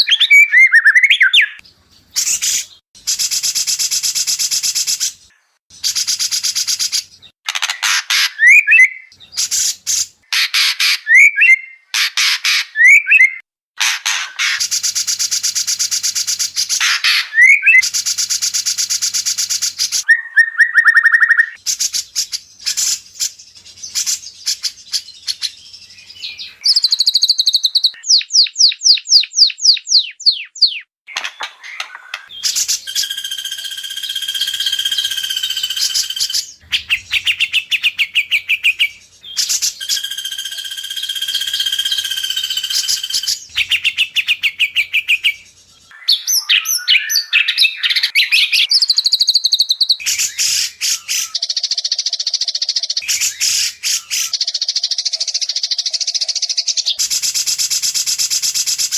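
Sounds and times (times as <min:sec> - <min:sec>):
songbird singing trills and whistles: 0:00.0 - 0:07.3, 0:08.1 - 0:13.5, 0:14.5 - 0:58.9.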